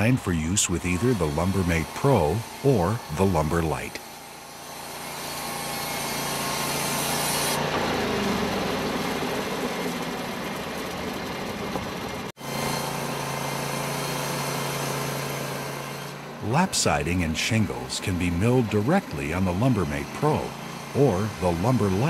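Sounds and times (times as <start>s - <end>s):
band sawmill cutting log: 0.0s - 22.0s.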